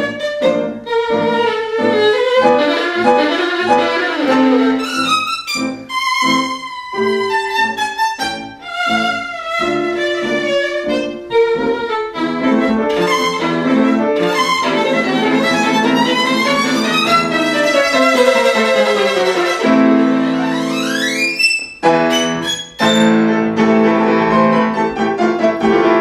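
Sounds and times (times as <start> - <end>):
violin playing: 0.0 - 26.0.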